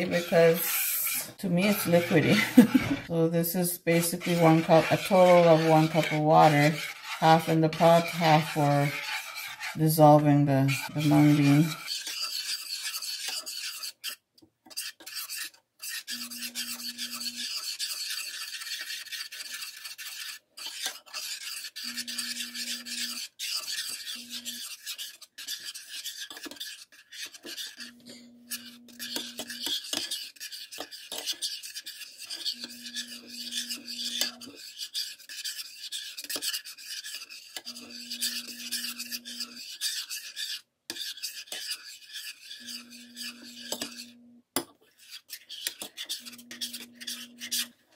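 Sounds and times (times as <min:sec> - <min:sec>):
metal spoon scraping saucepan: 0:00.0 - 0:44.3, 0:44.9 - 0:47.8.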